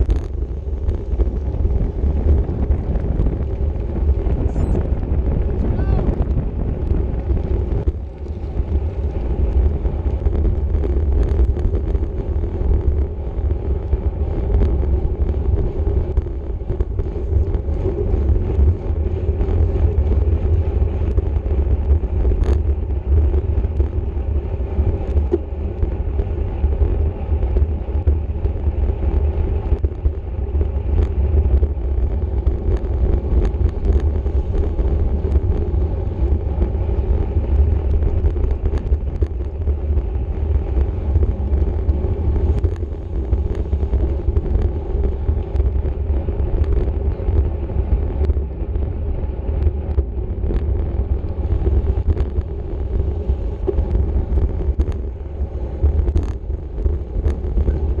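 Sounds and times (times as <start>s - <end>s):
tyre and road noise: 0.0s - 58.0s
wind rushing over microphone: 0.0s - 58.0s.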